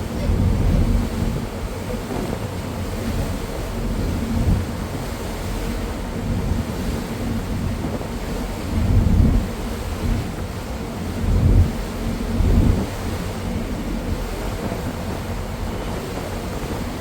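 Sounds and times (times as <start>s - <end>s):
boat underway: 0.0s - 17.0s
rush of water: 0.0s - 17.0s
wind buffeting microphone: 0.0s - 17.0s.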